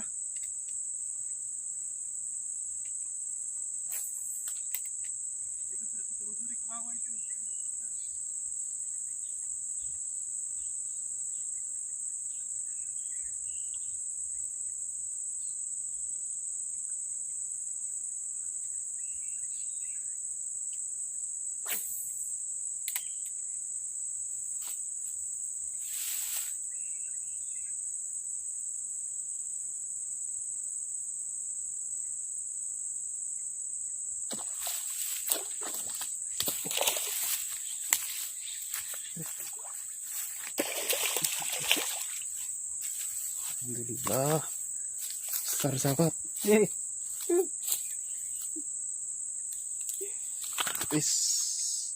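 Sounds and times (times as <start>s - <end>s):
insect chorus drone: 0.0s - 51.9s.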